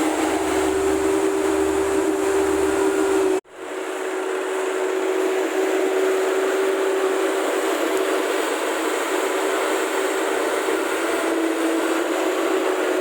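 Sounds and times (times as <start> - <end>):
steady mechanical drone: 0.0 - 13.0.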